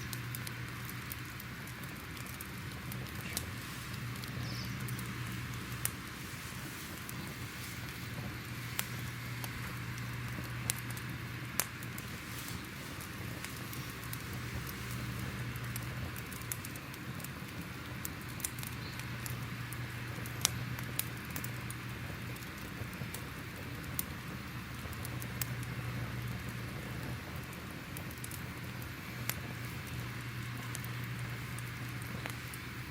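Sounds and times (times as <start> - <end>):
fire crackling and popping: 0.0 - 32.9
low steady rumble: 0.0 - 32.9
soft fire hiss: 0.0 - 32.9.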